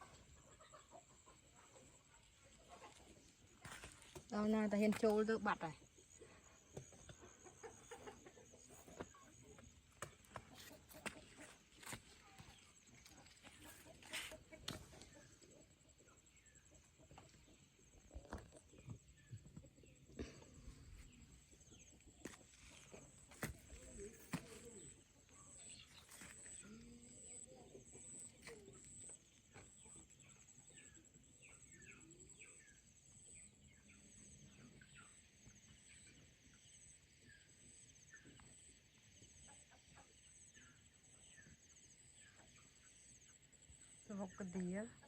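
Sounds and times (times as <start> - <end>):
faint birds chirping: 0.0 - 45.0.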